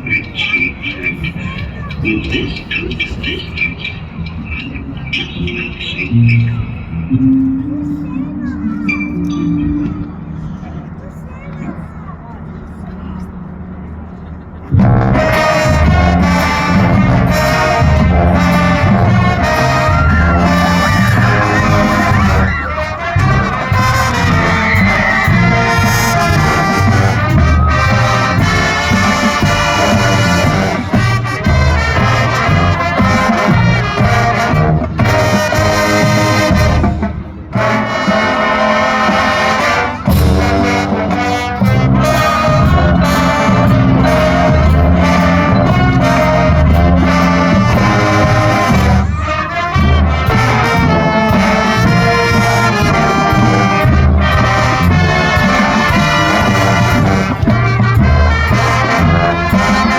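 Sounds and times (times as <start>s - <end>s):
marching band playing: 0.0s - 11.0s, 13.3s - 59.9s.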